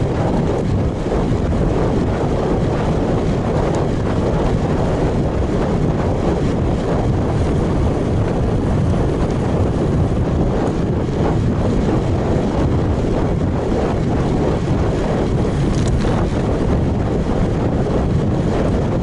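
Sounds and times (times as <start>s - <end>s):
wind rushing on microphone: 0.0s - 19.0s.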